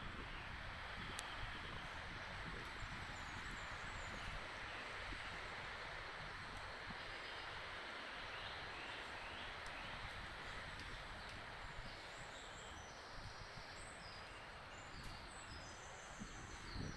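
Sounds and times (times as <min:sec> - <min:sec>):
breeze rustling through trees: 0:00.0 - 0:16.9
songbirds calling: 0:00.1 - 0:16.9.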